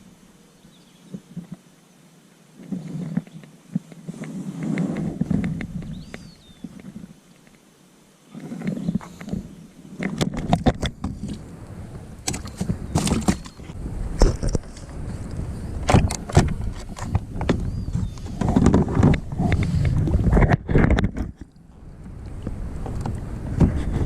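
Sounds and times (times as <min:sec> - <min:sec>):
wind rumbling on microphone: 0:02.6 - 0:07.2, 0:08.3 - 0:24.0.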